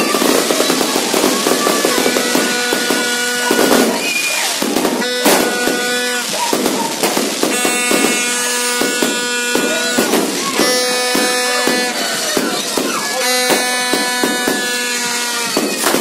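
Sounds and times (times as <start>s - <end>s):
fireworks pops bangs and crackles: 0.0s - 16.0s.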